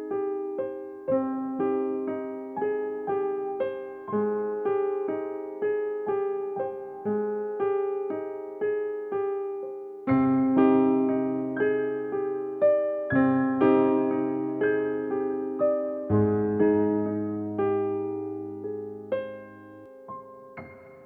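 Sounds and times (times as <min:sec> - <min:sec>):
gentle electric piano: 0:00.0 - 0:21.0.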